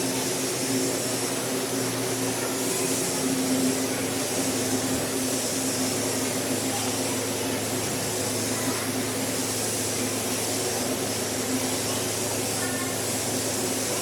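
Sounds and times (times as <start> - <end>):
car wash hiss: 0.0 - 14.0
car wash motor hum: 0.0 - 14.0.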